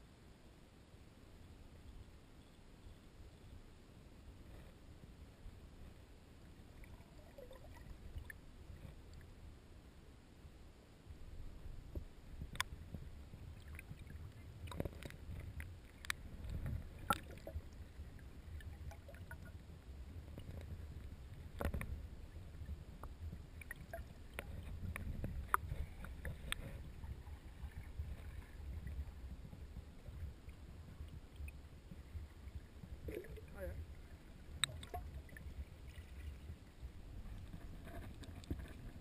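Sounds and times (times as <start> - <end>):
underwater water rumble: 4.3 - 9.6, 11.1 - 39.0.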